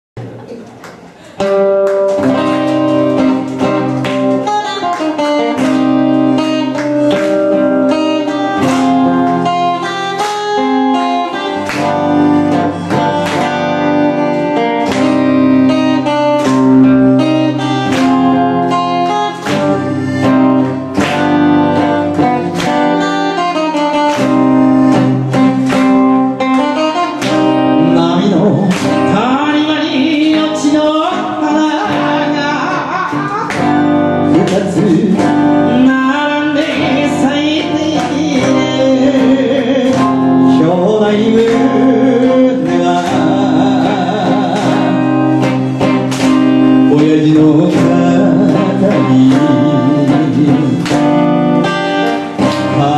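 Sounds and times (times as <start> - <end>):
plucked guitar melody: 0.2 - 52.9
sliding guitar notes: 1.1 - 52.9.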